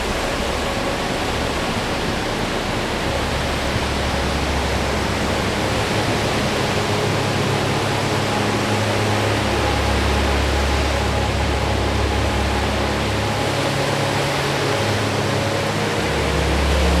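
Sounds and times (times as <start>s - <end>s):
soft low music chords: 0.0s - 17.0s.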